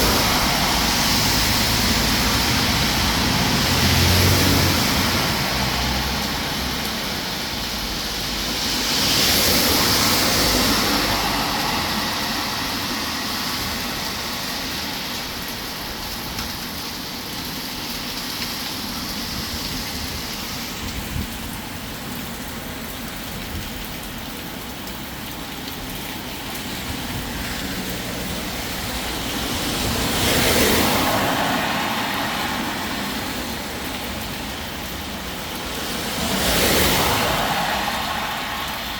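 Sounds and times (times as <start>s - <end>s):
cars passing on wet road: 0.0s - 38.9s
steady rain: 0.0s - 38.9s.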